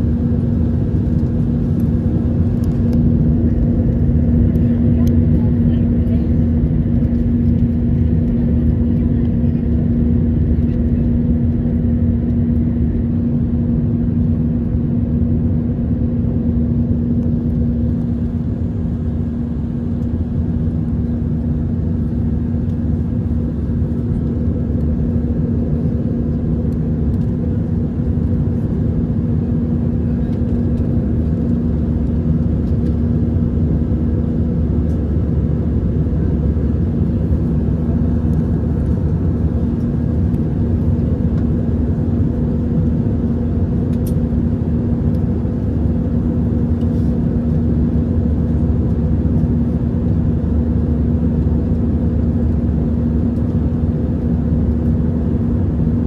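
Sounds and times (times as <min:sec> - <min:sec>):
aircraft engine drone: 0:00.0 - 0:56.0
steady low hum: 0:00.0 - 0:56.0.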